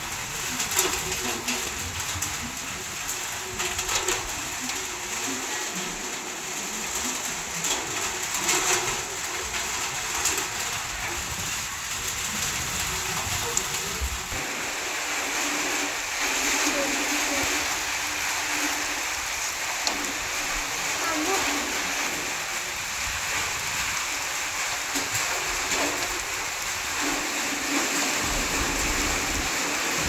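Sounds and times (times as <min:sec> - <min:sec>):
heavy rain: 0:00.0 - 0:30.0
raindrops tapping: 0:00.0 - 0:30.0.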